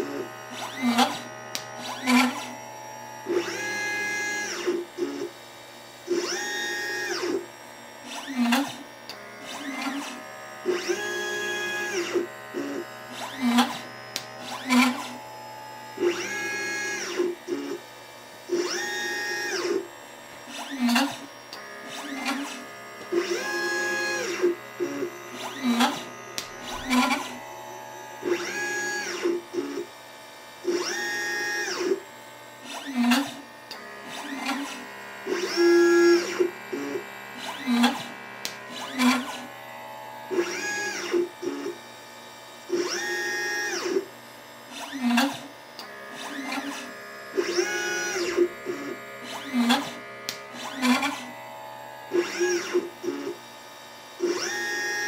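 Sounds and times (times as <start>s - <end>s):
stepper motor whine: 0.0s - 55.0s.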